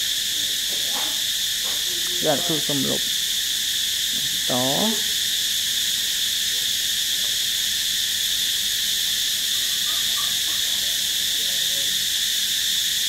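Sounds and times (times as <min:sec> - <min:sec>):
steady high-pitched hiss: 0:00.0 - 0:13.0.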